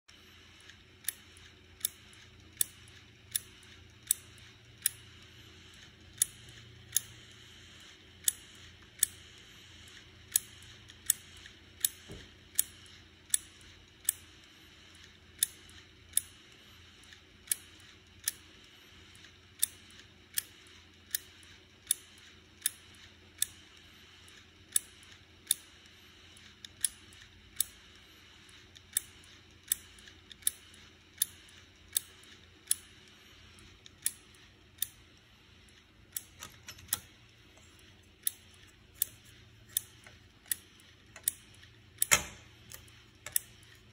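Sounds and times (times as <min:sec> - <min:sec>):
faint steady hum: 0:00.1 - 0:43.9
hard drive clicking: 0:00.2 - 0:43.9.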